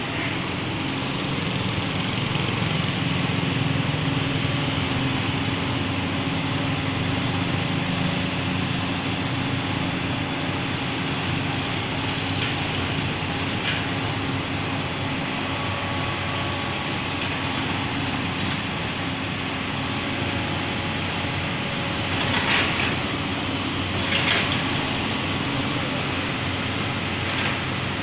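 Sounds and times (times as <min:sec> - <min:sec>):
excavator diesel engine running: 0:00.0 - 0:28.0
passing road traffic: 0:00.0 - 0:28.0.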